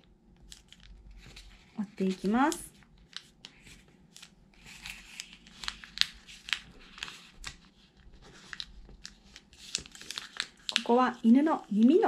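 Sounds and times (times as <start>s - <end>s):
paper being folded: 0.4s - 12.0s.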